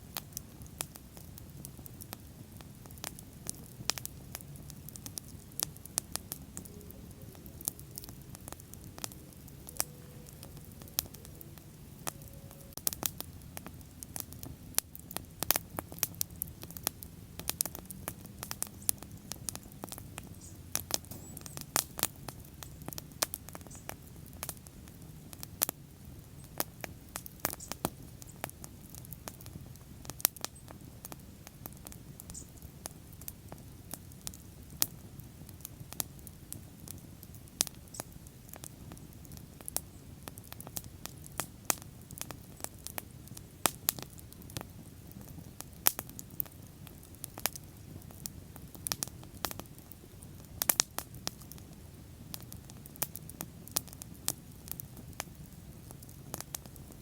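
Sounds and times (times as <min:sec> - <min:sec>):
fire crackling and popping: 0:00.0 - 0:57.0
low rush of flames: 0:00.0 - 0:57.0.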